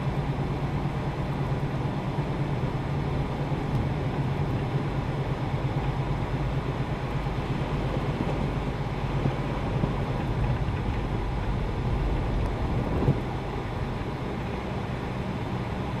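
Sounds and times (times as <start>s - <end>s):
gusty storm wind: 0.0s - 15.2s.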